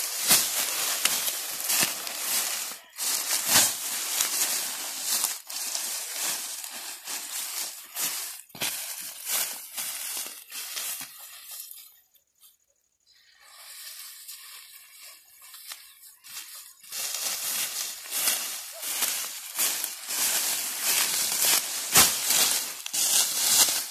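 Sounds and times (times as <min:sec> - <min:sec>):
dry leaves rustling and crunching: 0:00.0 - 0:11.8, 0:13.7 - 0:23.9.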